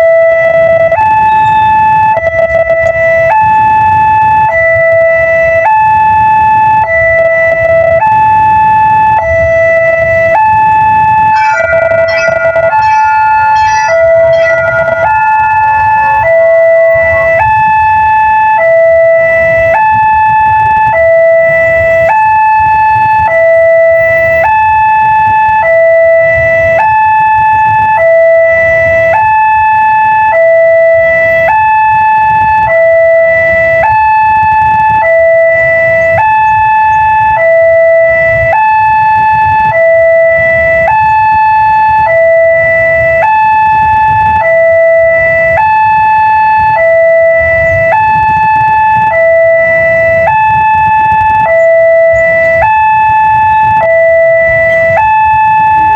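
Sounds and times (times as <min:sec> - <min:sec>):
level crossing two-tone siren: 0:00.0 - 0:55.9.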